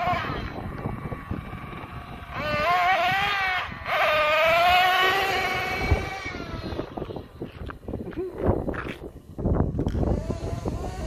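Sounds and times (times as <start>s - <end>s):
rc truck nitro engine revving: 0.0s - 7.7s, 9.8s - 11.0s.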